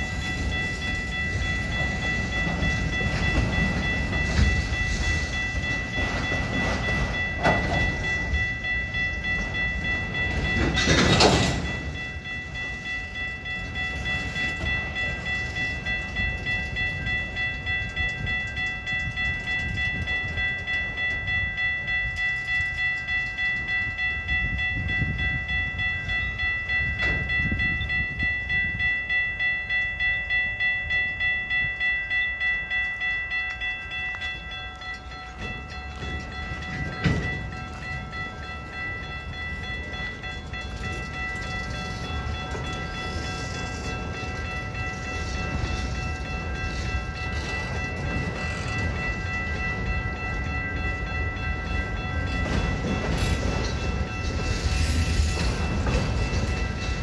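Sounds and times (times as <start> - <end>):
crossing bell ringing: 0.0 - 57.0
freight train rumbling past: 0.0 - 57.0
train cars clunking: 0.0 - 57.0.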